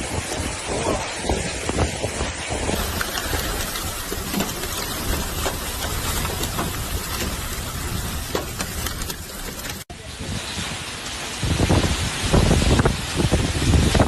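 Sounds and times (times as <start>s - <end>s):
rain: 0.0s - 14.0s
strong wind buffeting microphone: 0.0s - 14.0s.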